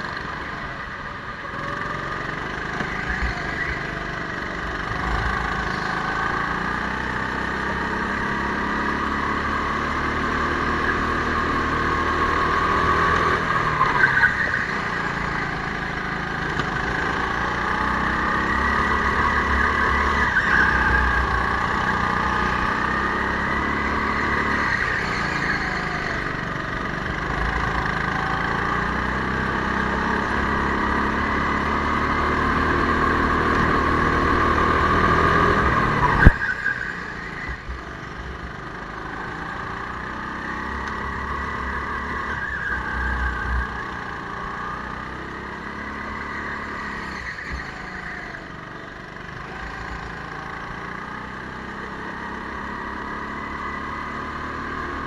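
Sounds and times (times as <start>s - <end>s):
go-kart motor whine: 0.0s - 55.0s.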